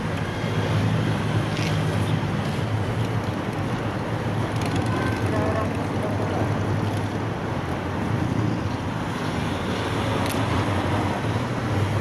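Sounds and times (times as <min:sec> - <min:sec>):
road traffic rumble: 0:00.0 - 0:12.0
wind noise on microphone: 0:00.0 - 0:12.0.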